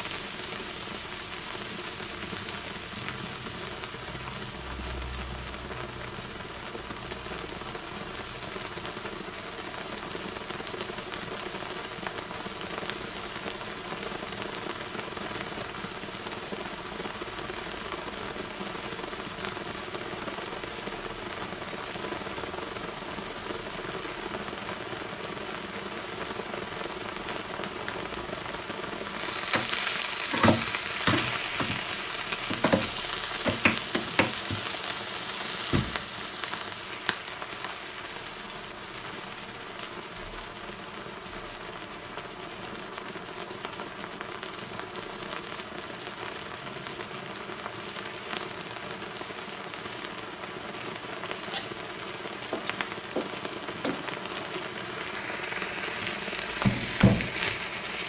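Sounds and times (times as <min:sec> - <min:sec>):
melting wax sizzling and crackling: 0:00.0 - 0:58.0.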